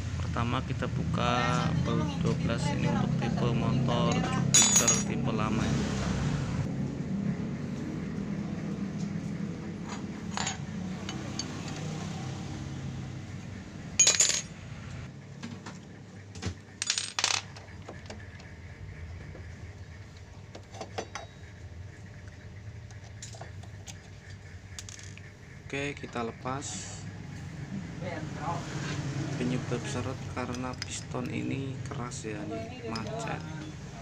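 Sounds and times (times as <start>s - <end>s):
low hum: 0.0s - 32.3s.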